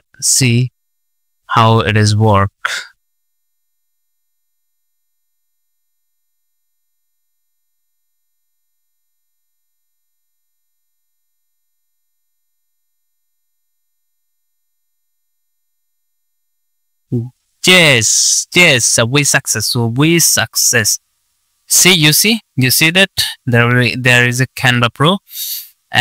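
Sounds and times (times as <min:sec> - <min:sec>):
faint steady electronic tone: 0:00.0 - 0:26.0.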